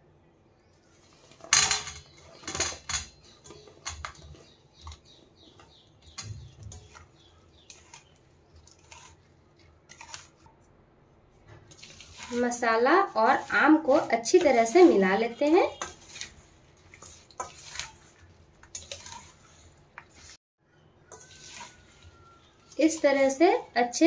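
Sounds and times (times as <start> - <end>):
stirring with scrapes and clatters: 0.7 - 20.4, 21.0 - 24.0.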